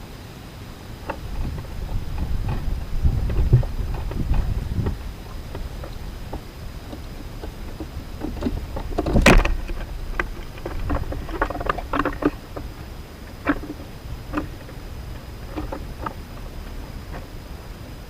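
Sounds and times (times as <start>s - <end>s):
wind rumble on microphone: 0.6s - 18.0s
birds pecking at feeder: 1.0s - 18.0s.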